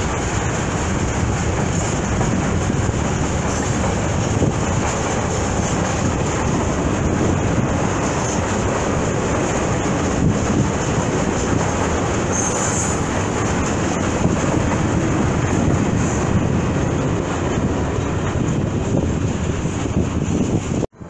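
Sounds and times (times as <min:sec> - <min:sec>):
train wheels on track: 0:00.0 - 0:21.0.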